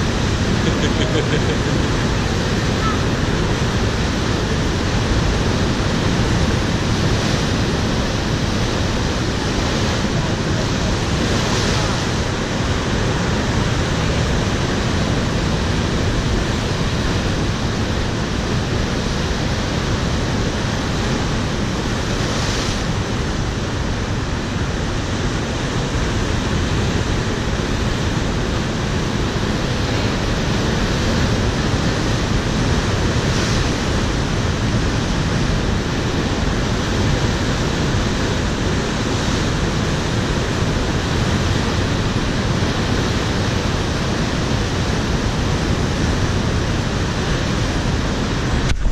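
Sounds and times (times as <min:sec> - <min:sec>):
surf crashing on rocks: 0:00.0 - 0:48.9.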